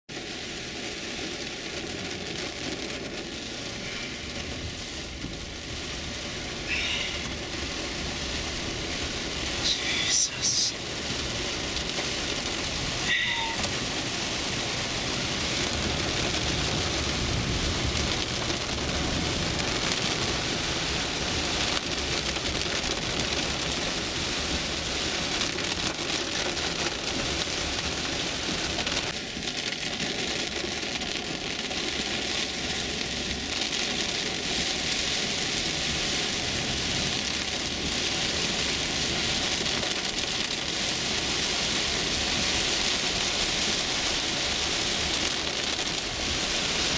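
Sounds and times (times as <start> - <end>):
heavy rain on a car: 0.1 - 46.9.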